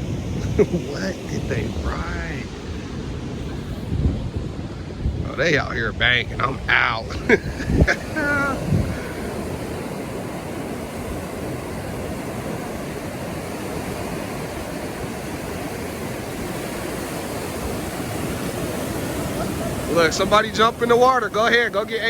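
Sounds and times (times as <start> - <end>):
waves breaking on shore: 0.0 - 22.0.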